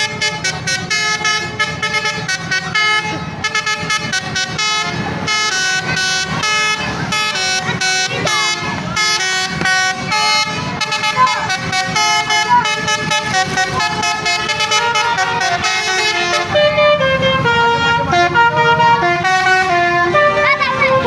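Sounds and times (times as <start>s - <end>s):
multi-tone bus horn tune: 0.0s - 21.0s.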